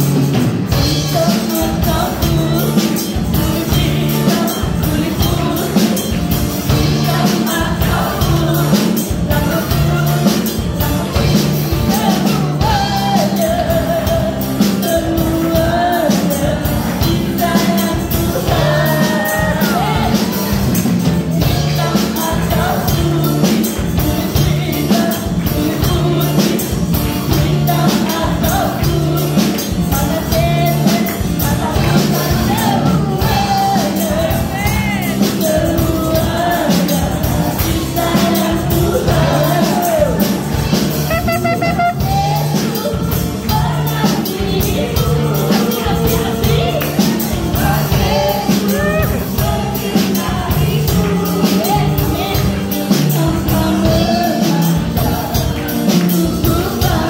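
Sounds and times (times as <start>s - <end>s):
backing music with steady beat: 0.0s - 57.0s
woman singing lead: 0.0s - 57.0s
man singing: 0.8s - 20.6s, 21.4s - 57.0s.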